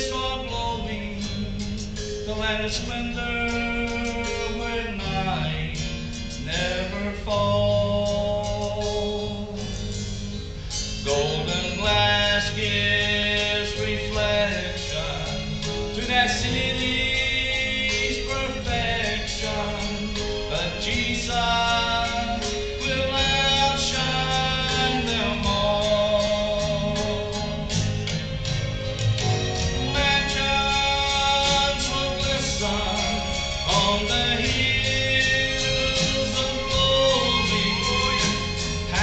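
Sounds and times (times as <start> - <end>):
man singing gospel song: 0.0 - 28.1, 29.6 - 39.0
instrumental accompaniment: 0.0 - 39.0.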